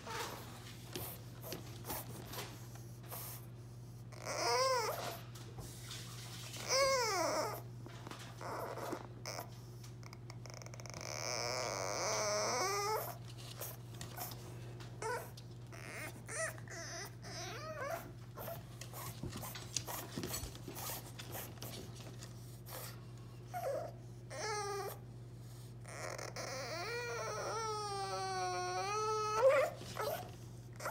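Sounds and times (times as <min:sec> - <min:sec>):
puppy whining and crying: 0:03.1 - 0:05.3, 0:06.4 - 0:30.9.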